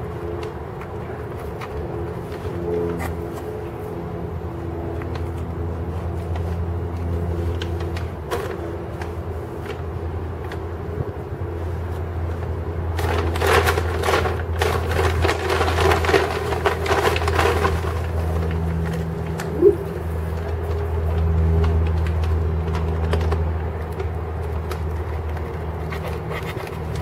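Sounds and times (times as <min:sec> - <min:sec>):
street traffic rumble: 0:00.0 - 0:27.0
crackly rustling noise: 0:05.0 - 0:27.0.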